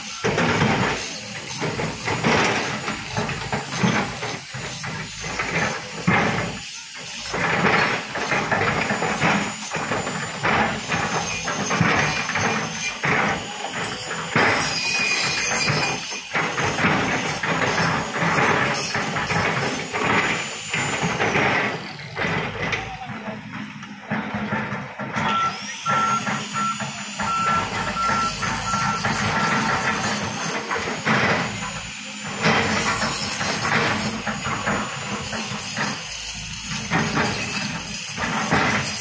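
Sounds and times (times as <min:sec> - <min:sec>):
excavator diesel engine: 0:00.0 - 0:39.0.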